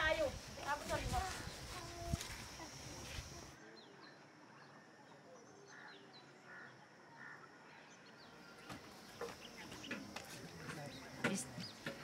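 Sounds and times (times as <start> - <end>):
faint birdsong chirps: 0.1 - 12.0.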